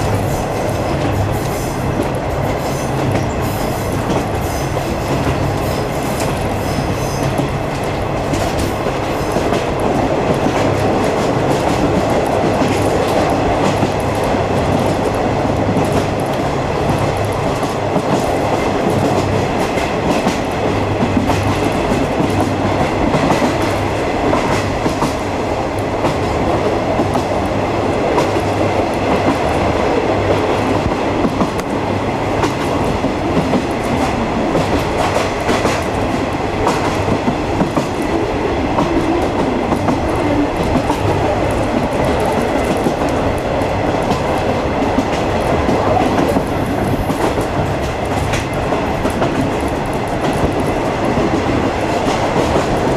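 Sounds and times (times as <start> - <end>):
clickety-clack of rail joints: 0.0 - 52.9
train wheels rumbling on rail: 0.0 - 52.9.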